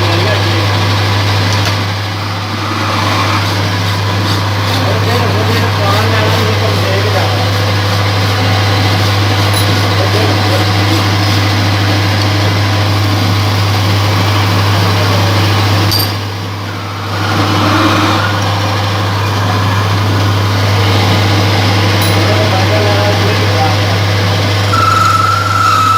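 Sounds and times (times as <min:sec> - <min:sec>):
lathe running: 0:00.0 - 0:25.9.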